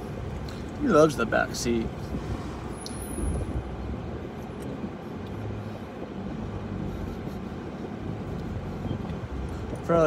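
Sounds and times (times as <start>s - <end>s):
truck engine and tyre hum: 0.0s - 10.0s.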